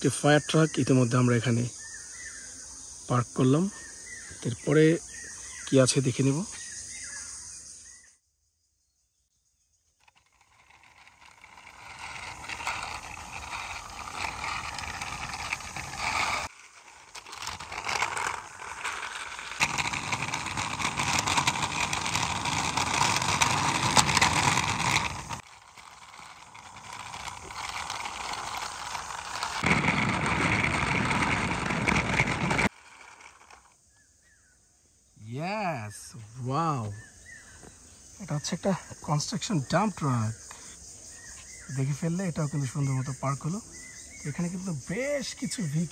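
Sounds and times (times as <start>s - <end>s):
toy truck wheels rolling on concrete: 3.1s - 7.3s, 9.8s - 34.5s, 35.9s - 45.9s.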